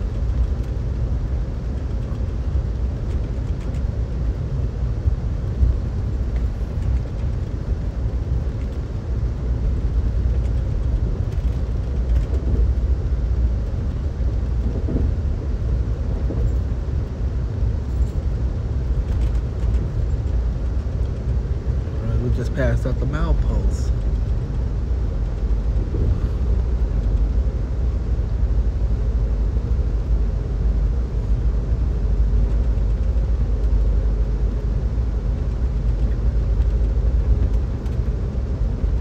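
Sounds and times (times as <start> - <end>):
train wheels on rails from inside: 0.0 - 4.7, 5.4 - 28.7, 29.3 - 39.0.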